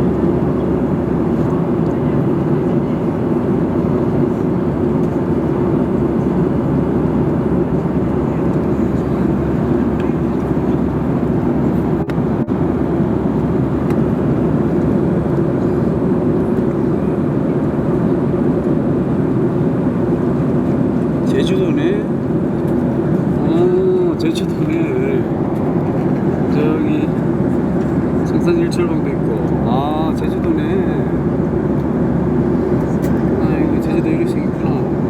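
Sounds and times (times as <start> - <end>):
airliner cabin engine and airflow noise: 0.0 - 35.0.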